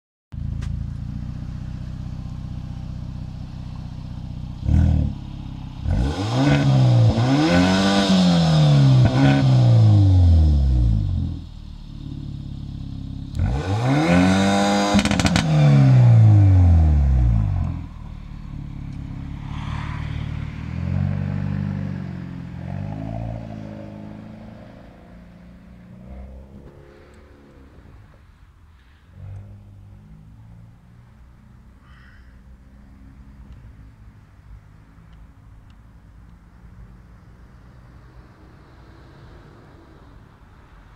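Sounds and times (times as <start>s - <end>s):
car engine idling and revving: 0.3s - 40.9s.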